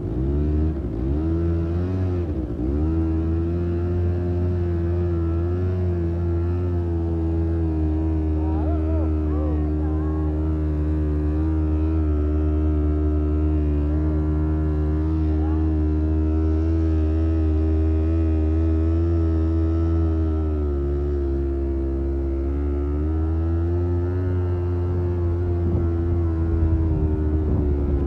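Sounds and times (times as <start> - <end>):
deep droning tone: 0.0 - 28.0.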